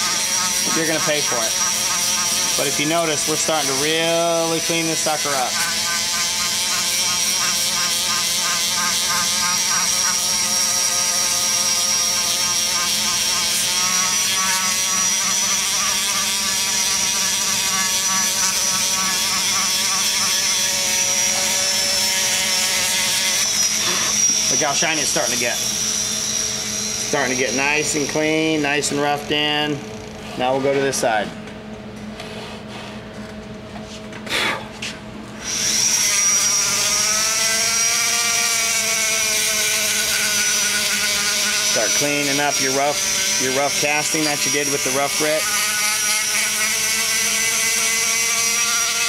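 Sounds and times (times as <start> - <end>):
die grinder whining on metal: 0.0 - 31.3, 35.4 - 49.0.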